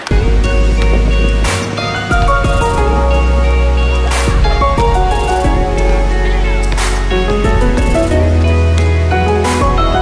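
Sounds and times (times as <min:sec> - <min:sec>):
held chords over deep bass: 0:00.0 - 0:10.0.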